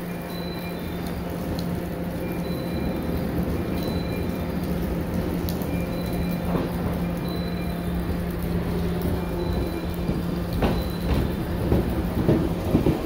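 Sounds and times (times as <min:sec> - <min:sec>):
train rushing noise: 0:01.3 - 0:13.0.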